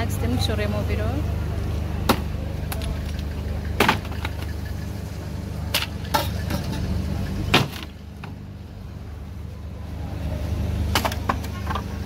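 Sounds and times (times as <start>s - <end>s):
low steady engine hum: 0.0s - 12.0s.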